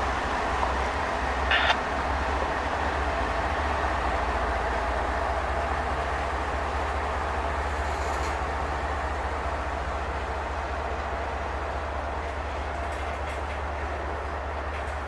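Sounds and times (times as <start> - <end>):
freight train wheels rumbling on track: 0.0 - 15.0.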